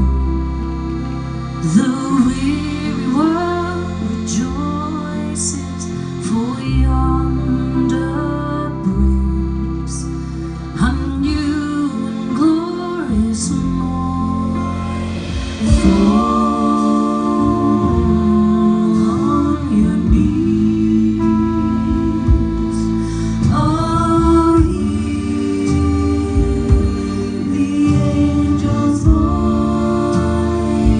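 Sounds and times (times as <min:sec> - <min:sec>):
accordion: 0:00.0 - 0:30.9
double bass: 0:00.0 - 0:30.9
drums: 0:00.0 - 0:30.9
guitar: 0:00.0 - 0:30.9
women singing in harmony: 0:01.6 - 0:30.9.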